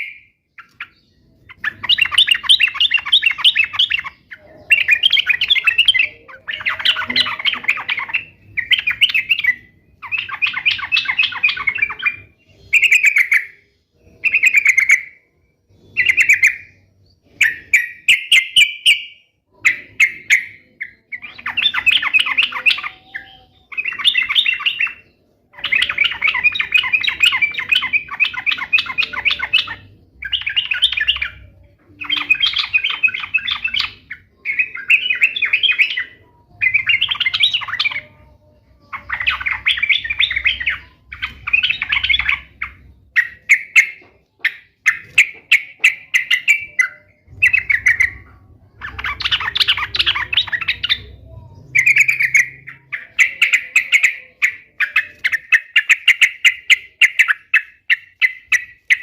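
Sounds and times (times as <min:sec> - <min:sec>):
bird singing bubbly chatter: 0:00.0 - 0:59.0.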